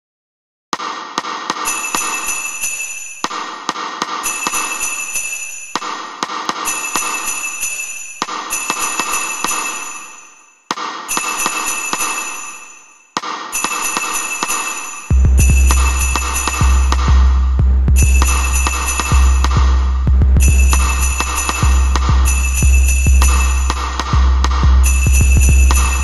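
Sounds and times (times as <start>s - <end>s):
bell-like chimes: 1.6s - 17.1s, 18.0s - 19.5s, 20.4s - 24.0s, 24.8s - 26.0s.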